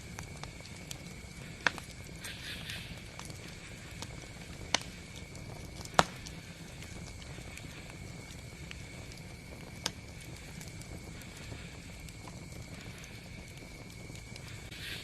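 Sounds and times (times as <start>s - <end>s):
low rumble of flames: 0.0s - 15.0s
wood crackling and popping: 0.0s - 15.0s.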